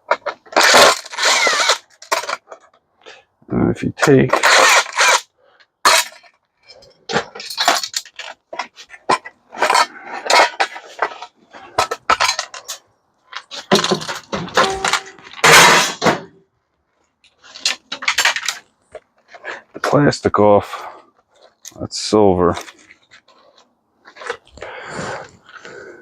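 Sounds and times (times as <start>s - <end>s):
metal and plastic parts clattering: 0.0s - 3.3s, 4.0s - 16.4s, 17.0s - 20.1s, 22.5s - 25.8s.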